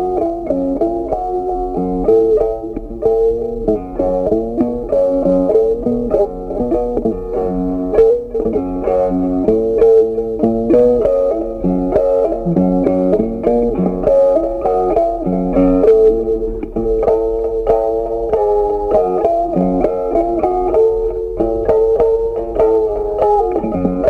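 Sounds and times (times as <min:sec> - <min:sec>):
bass notes: 0:00.0 - 0:24.0
plucked guitar tune: 0:00.0 - 0:24.0.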